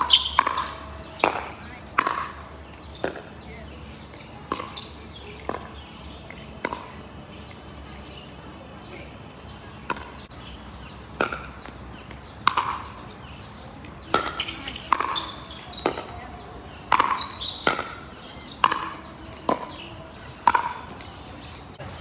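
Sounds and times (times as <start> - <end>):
ball bouncing on hard court: 0.0 - 8.2, 9.4 - 10.3, 11.2 - 21.7
paddles hitting plastic ball: 0.0 - 8.2, 11.2 - 21.8.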